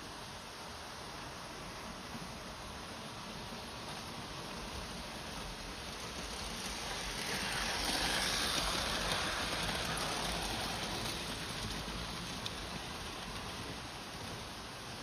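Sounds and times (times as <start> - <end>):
model train rattling past: 1.2 - 15.0.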